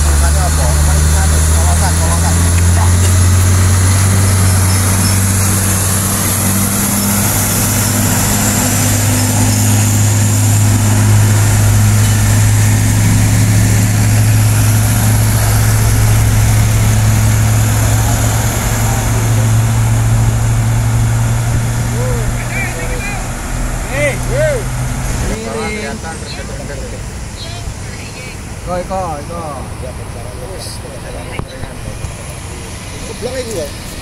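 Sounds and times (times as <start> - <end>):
diesel truck engines droning: 0.0 - 34.0.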